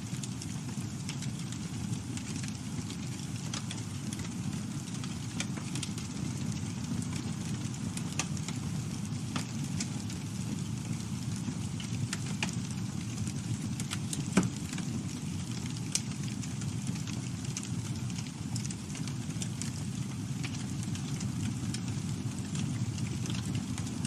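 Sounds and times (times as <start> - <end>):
low rumble of flames: 0.0 - 24.0
wood crackling and snapping: 0.1 - 24.0.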